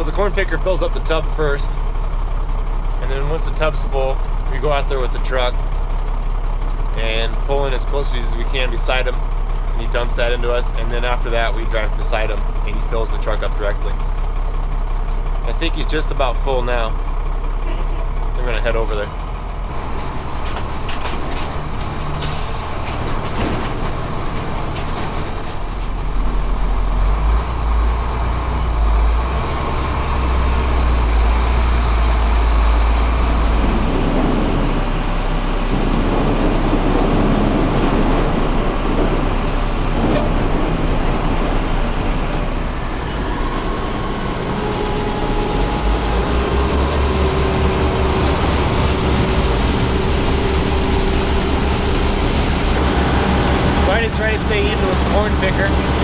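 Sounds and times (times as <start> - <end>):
truck engine rumbling: 0.0 - 56.0.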